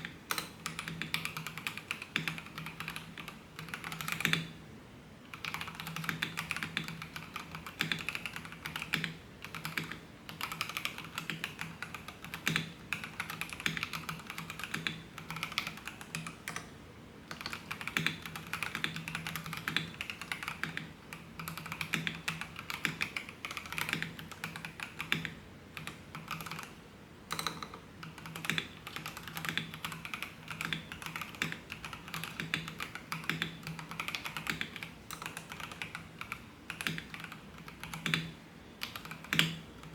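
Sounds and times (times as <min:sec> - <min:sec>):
mechanical keyboard typing: 0:00.0 - 0:04.5, 0:05.3 - 0:16.7, 0:17.3 - 0:39.9.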